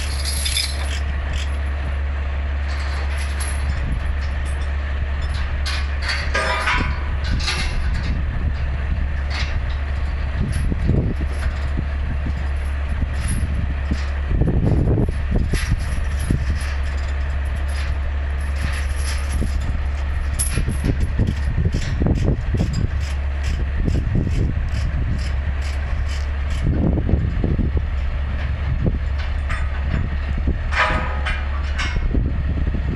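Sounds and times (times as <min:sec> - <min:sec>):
steel chains clanking: 0:00.0 - 0:02.0, 0:02.6 - 0:26.8, 0:28.7 - 0:32.1
diesel engine idling: 0:00.0 - 0:32.9.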